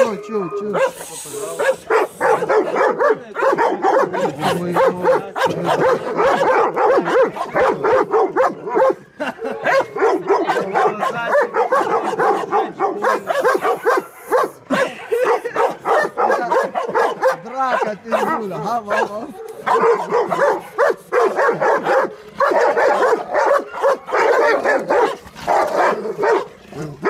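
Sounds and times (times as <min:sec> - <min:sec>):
dogs barking aggressively: 0:00.0 - 0:27.0.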